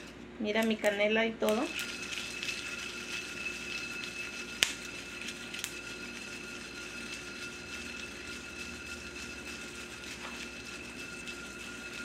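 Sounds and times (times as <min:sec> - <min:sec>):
steady hum: 0:00.0 - 0:12.0
spices shaken in skillet: 0:01.5 - 0:12.0.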